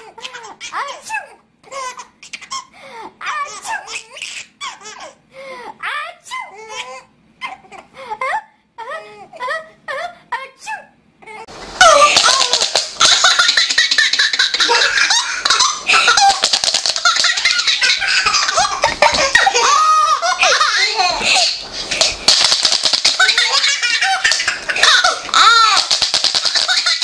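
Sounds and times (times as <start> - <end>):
baby laughing: 0.0 - 5.2, 6.4 - 8.4, 11.2 - 27.0.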